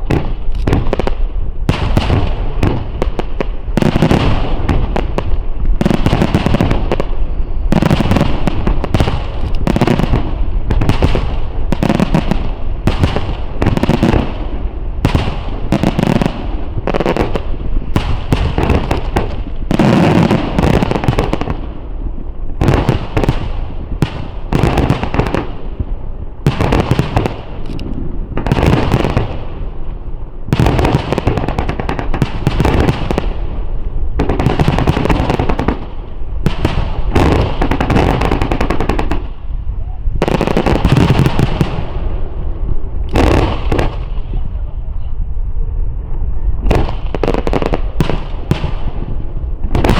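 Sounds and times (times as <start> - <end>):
fireworks bangs and booms: 0.0 - 49.9.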